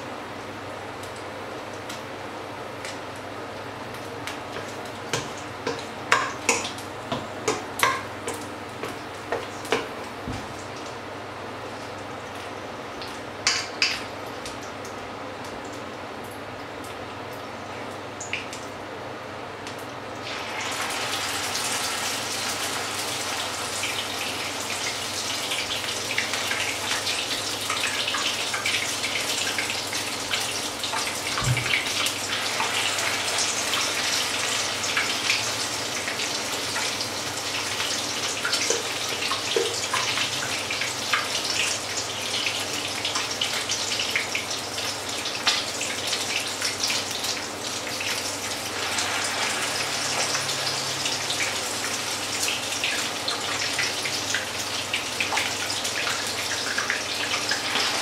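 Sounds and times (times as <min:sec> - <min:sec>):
batter sizzling in hot oil: 0:00.0 - 0:15.8, 0:19.6 - 0:58.0.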